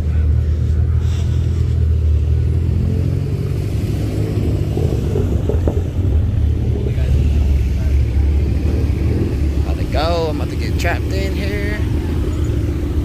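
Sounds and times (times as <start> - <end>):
car engine and exhaust rumbling: 0.0 - 13.0.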